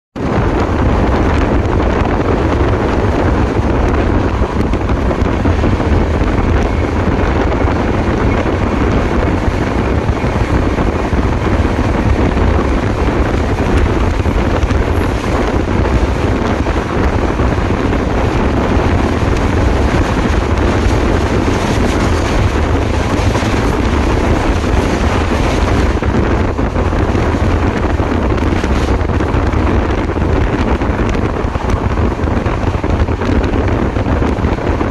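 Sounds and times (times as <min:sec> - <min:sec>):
train track rumble: 0:00.1 - 0:34.9
wind buffeting microphone: 0:00.2 - 0:34.9
wind rushing: 0:00.2 - 0:34.9.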